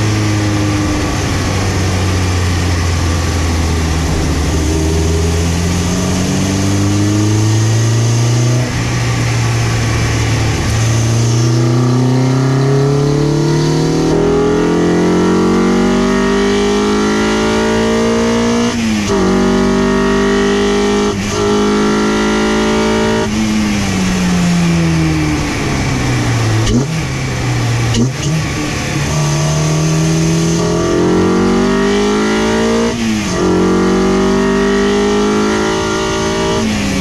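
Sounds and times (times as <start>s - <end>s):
car engine at full throttle: 0.0s - 37.0s.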